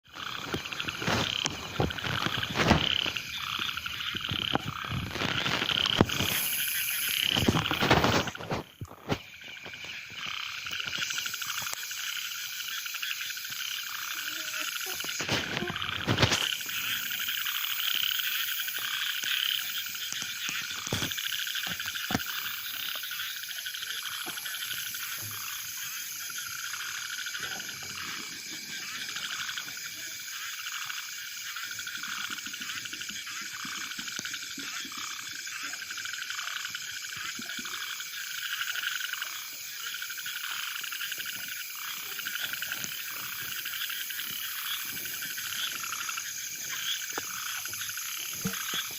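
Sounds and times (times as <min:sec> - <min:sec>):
frogs calling: 0:00.0 - 0:48.9.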